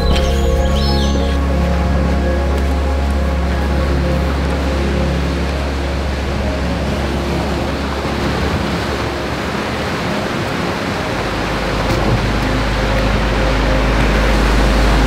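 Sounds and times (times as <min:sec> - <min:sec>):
low musical drone: 0:00.0 - 0:15.0
sea surf rushing: 0:00.0 - 0:15.0.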